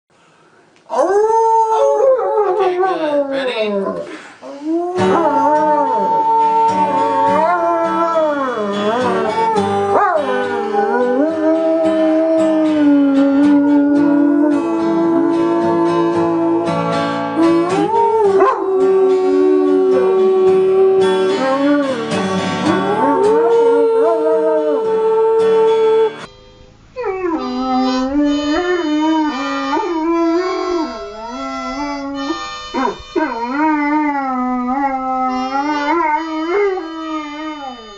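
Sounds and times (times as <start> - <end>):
dogs howling: 0.9 - 16.8, 17.4 - 26.3, 27.0 - 37.9
music: 4.7 - 37.9.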